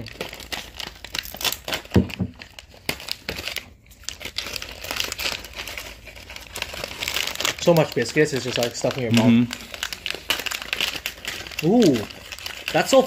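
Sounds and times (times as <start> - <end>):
plastic snack packet crinkling: 0.0 - 13.0.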